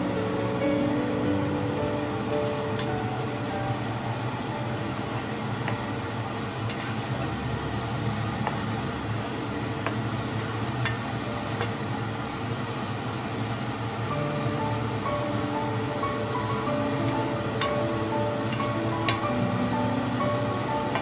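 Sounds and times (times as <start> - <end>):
fan-like hum: 0.0 - 21.0.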